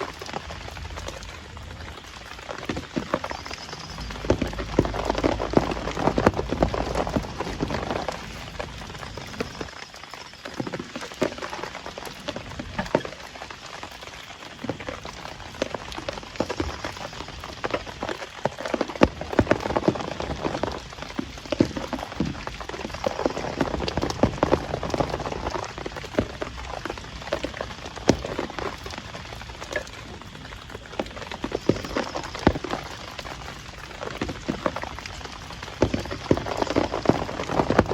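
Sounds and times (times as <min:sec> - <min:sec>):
heavy rain drumming: 0:00.0 - 0:10.1, 0:11.4 - 0:37.9.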